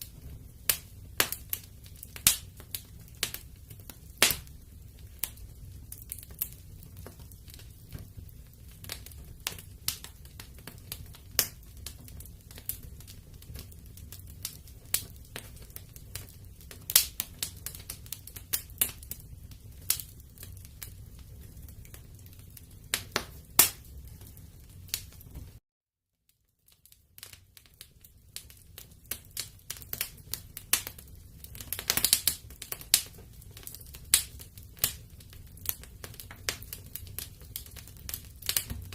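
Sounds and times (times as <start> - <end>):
low fire rumble: 0.0 - 25.6, 27.1 - 38.9
wood fire crackling and popping: 0.0 - 25.6, 26.5 - 38.9.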